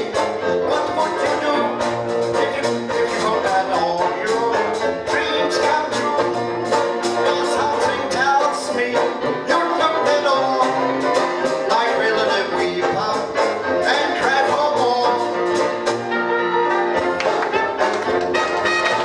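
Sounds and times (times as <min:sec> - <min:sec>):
jazz band playing: 0:00.0 - 0:19.0
strummed banjo and guitar: 0:00.0 - 0:19.0.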